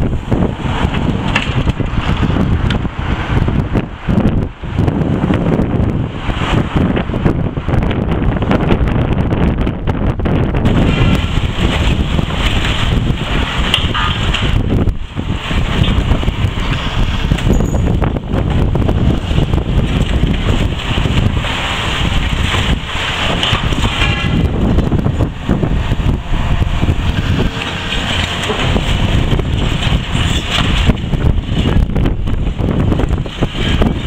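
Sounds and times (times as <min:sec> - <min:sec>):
excavator engine and hydraulics: 0:00.0 - 0:34.0
wind buffeting microphone: 0:00.0 - 0:34.0.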